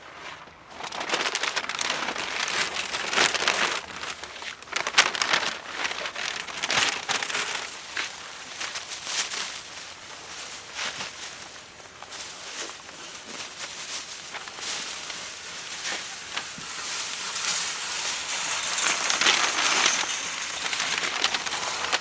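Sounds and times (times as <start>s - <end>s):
bag rustling and crinkling: 0.0s - 22.0s.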